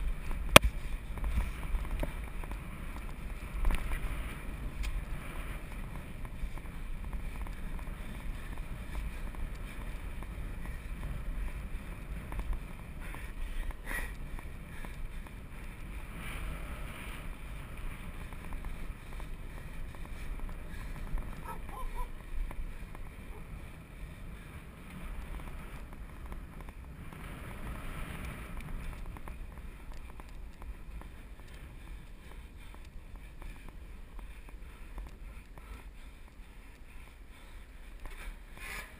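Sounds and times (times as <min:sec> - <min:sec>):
wind buffeting microphone: 0:00.0 - 0:38.6.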